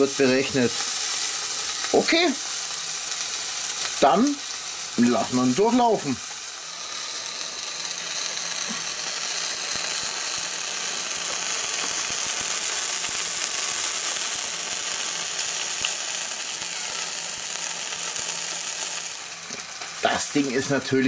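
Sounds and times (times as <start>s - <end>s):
small crackles: 0.0s - 20.6s
burger patties sizzling on grill: 0.0s - 21.0s.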